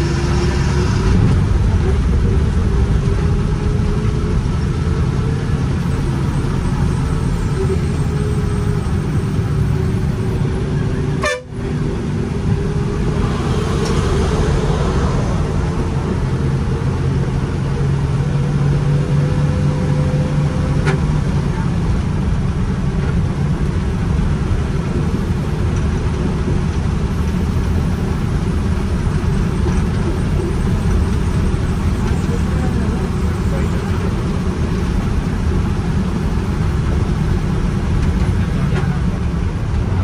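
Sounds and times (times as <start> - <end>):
bus diesel engine droning: 0.0 - 40.0.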